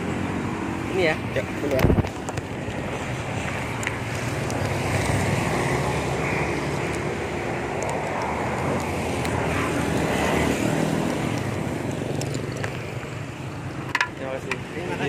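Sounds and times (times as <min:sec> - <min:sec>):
wind on microphone: 0:00.0 - 0:13.6.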